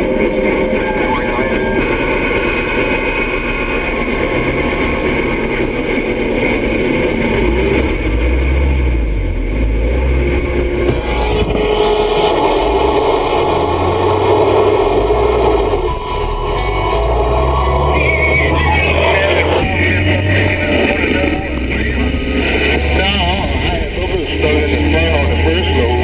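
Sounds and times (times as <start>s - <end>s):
engine and road noise inside cab: 0.0s - 26.0s.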